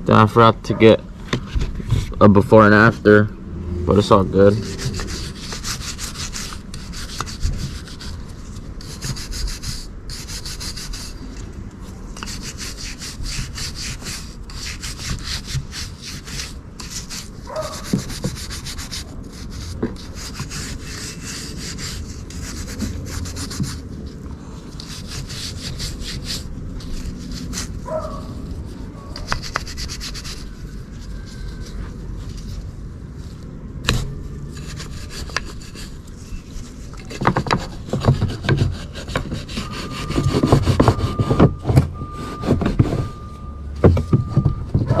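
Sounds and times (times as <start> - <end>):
brush scrubbing metal: 3.9 - 32.6, 33.2 - 41.4.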